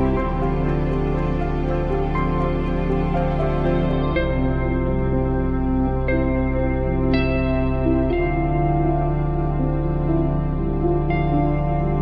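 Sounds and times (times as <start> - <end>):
soft slow background music: 0.0 - 12.0.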